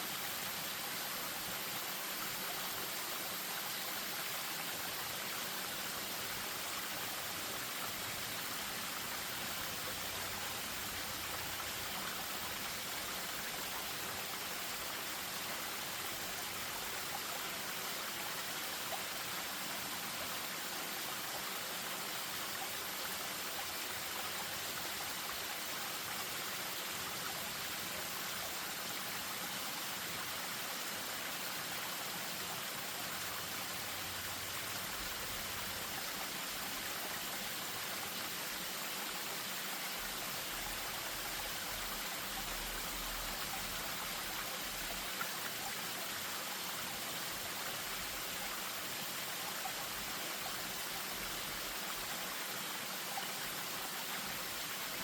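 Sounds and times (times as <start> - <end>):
stream over small waterfall: 0.0 - 55.0.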